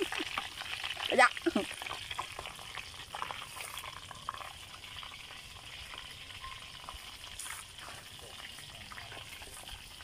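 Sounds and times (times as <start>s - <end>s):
oil sizzling in a pot: 0.0s - 10.0s.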